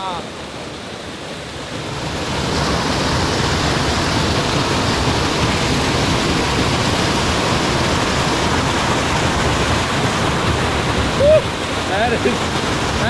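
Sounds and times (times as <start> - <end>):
water gushing onto rock: 1.8 - 13.0.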